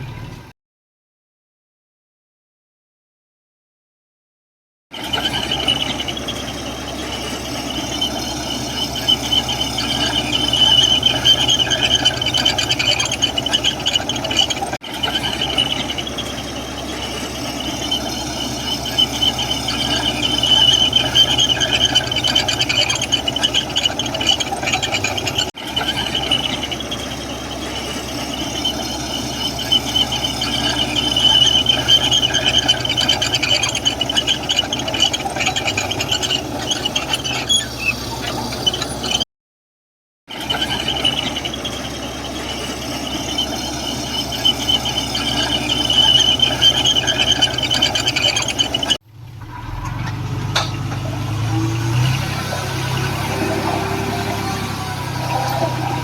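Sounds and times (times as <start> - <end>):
bulldozer diesel engine: 0.0 - 0.5, 5.0 - 39.3, 40.3 - 56.0
steel tracks squealing: 5.0 - 39.2, 40.3 - 56.0.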